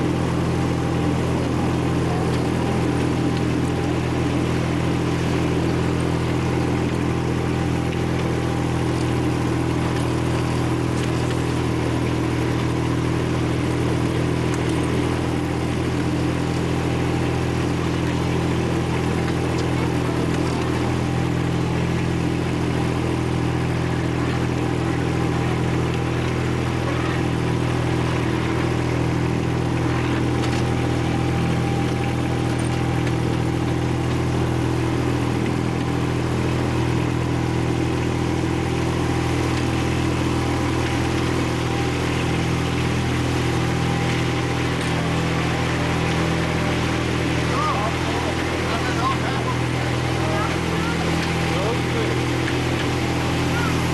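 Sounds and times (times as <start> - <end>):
miniature locomotive engine droning: 0.0 - 53.9.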